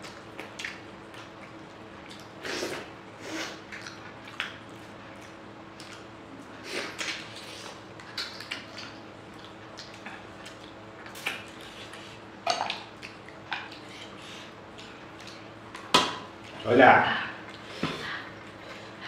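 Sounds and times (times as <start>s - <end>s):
chewing and lip-smacking: 0.0s - 16.7s, 17.4s - 19.0s
faint steady hum: 0.0s - 19.0s.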